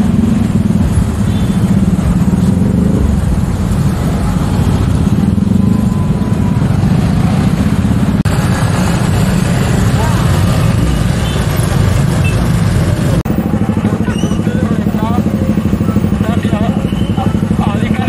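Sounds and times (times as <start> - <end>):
traffic of scooters and cars: 0.0 - 18.0.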